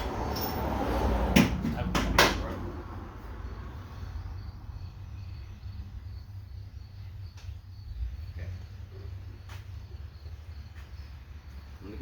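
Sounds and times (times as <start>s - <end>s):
insects chirping: 0.0s - 1.3s, 2.4s - 12.0s.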